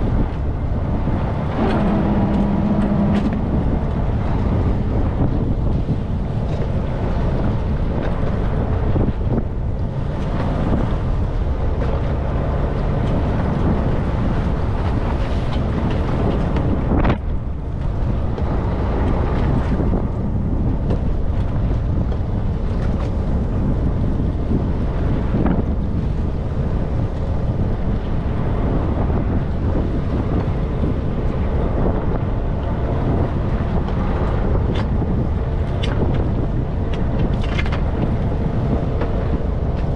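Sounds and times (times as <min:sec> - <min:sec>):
boat engine: 0:00.0 - 0:39.9
water rushing: 0:00.0 - 0:39.9
wind buffeting microphone: 0:00.0 - 0:39.9.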